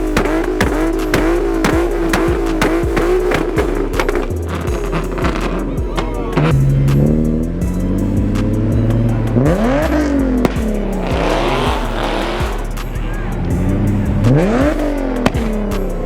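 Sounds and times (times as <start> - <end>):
car engine revving: 0.0 - 16.0
music playing: 0.0 - 16.0.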